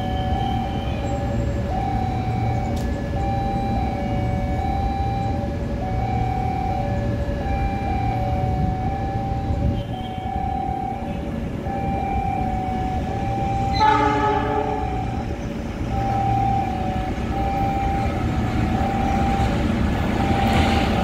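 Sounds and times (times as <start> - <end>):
two-tone level-crossing alarm: 0.0 - 21.0.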